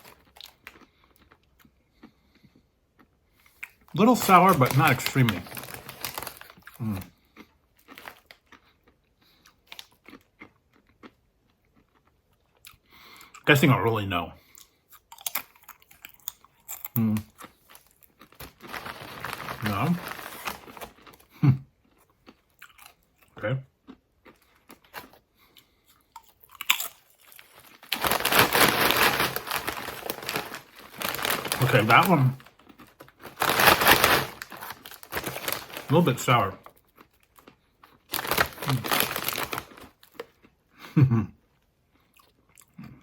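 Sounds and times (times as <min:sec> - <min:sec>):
crunching and chewing chips: 0:00.0 - 0:13.7, 0:14.4 - 0:40.8, 0:41.5 - 0:43.0.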